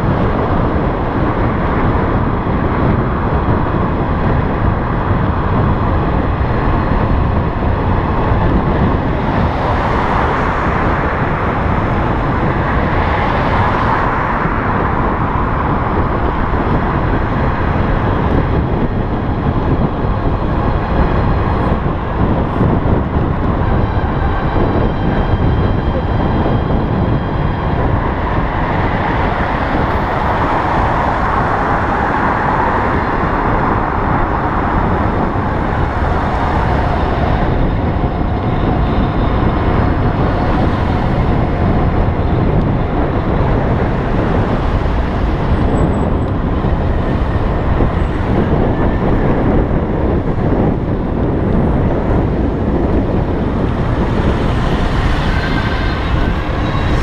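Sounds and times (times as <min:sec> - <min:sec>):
passing traffic: 0:00.0 - 0:57.0
road noise: 0:00.0 - 0:57.0
wind rushing on microphone: 0:00.0 - 0:57.0.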